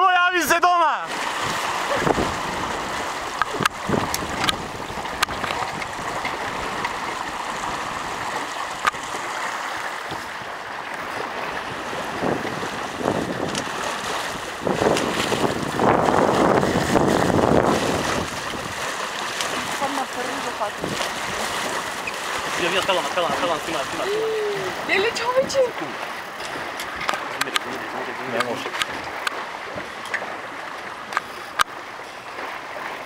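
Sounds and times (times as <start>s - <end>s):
water rushing along hull: 0.0s - 33.0s
wind buffeting microphone: 1.1s - 31.1s.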